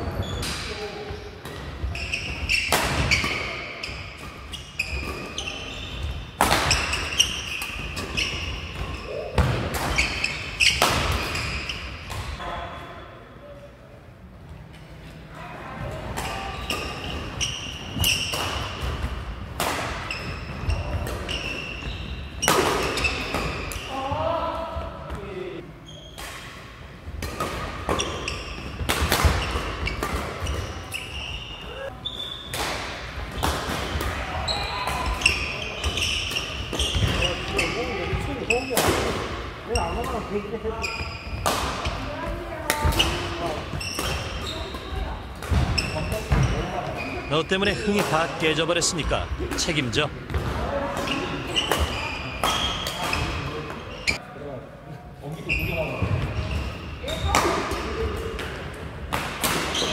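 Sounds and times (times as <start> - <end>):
sneakers squeaking on court: 0.0 - 13.0, 16.2 - 24.2, 25.1 - 26.3, 27.4 - 32.6, 34.4 - 54.2, 55.4 - 58.5, 59.6 - 59.9.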